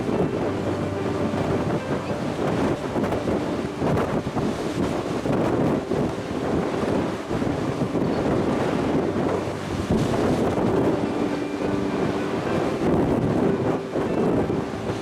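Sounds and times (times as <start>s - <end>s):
faint ship engine drone: 0.0s - 15.0s
sea water rushing along hull: 0.0s - 15.0s
wind buffeting microphone: 0.0s - 15.0s.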